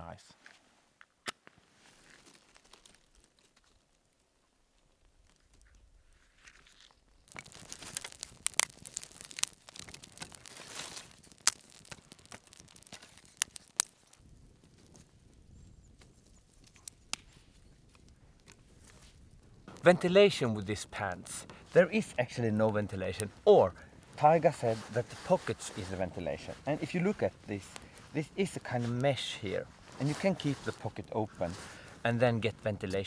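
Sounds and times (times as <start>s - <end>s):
twig fire crackling and popping: 1.2s - 33.0s.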